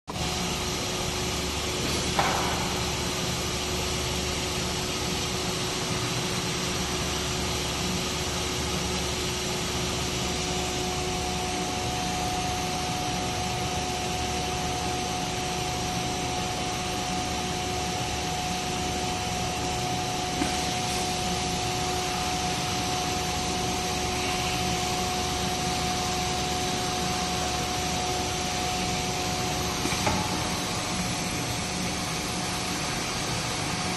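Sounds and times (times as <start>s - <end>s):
cnc router whine: 5.9s - 33.9s.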